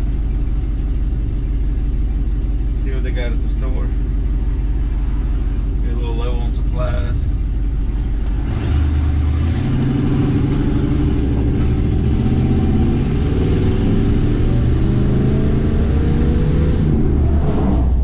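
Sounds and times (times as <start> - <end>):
truck engine accelerating: 0.0 - 18.0.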